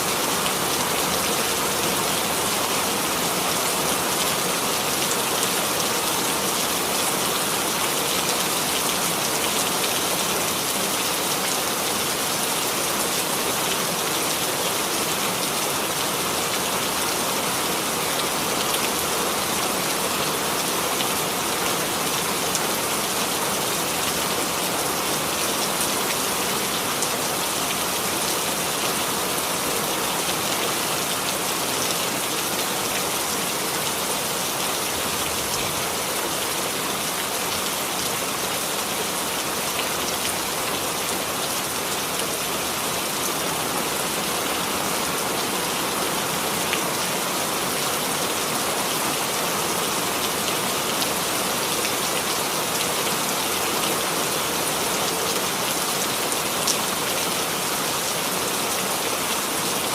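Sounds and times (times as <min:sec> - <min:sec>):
rain on a hard surface: 0:00.0 - 0:59.9.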